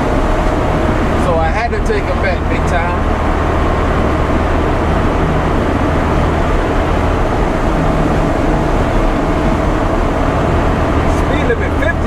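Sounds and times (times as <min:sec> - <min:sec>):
diesel engine drone: 0:00.0 - 0:12.0
tyre and road noise: 0:00.0 - 0:12.0.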